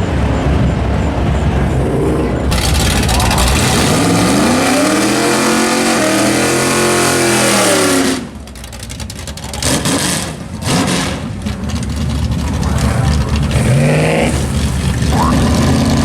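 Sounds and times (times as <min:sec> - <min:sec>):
car engine revving: 0:01.1 - 0:16.0.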